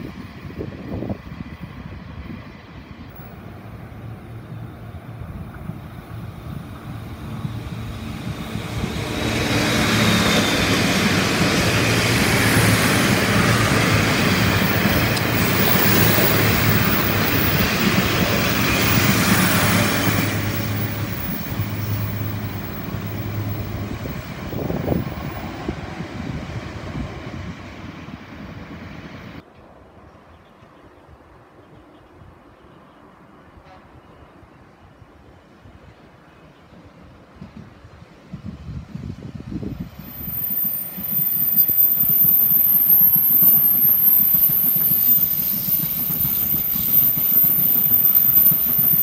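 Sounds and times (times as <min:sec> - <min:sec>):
train passing with wheel noise: 0:00.0 - 0:49.0.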